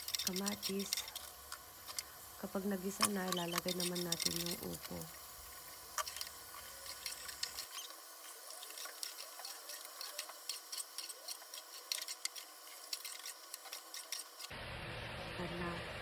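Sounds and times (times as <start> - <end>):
vegetables sizzling in oil: 0.0 - 15.1.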